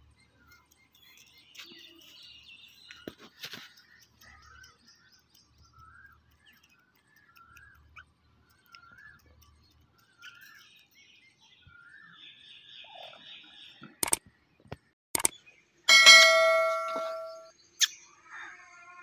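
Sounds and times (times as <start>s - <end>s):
high bird chirping: 0.1s - 14.2s, 15.2s - 18.1s.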